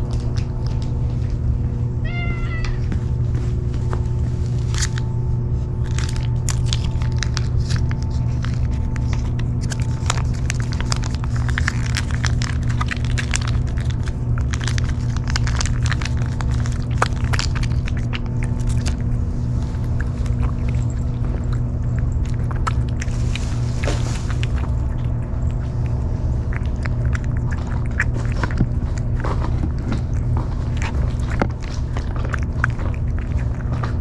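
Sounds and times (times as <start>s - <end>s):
cat chewing and licking: 0.0s - 34.0s
steady low hum: 0.0s - 34.0s.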